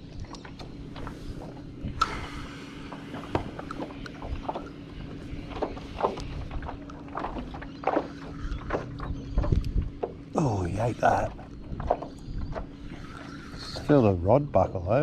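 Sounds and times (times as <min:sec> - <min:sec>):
waves slapping plastic hull: 0:00.0 - 0:13.8
wind: 0:00.0 - 0:15.0.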